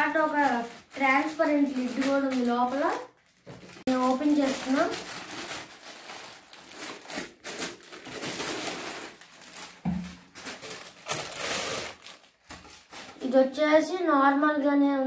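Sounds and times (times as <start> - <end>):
plastic bags rustling: 0.0 - 13.5.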